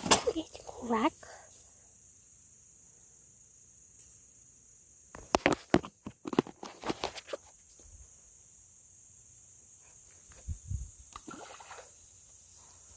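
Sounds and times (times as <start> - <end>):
insects droning: 0.0 - 12.9.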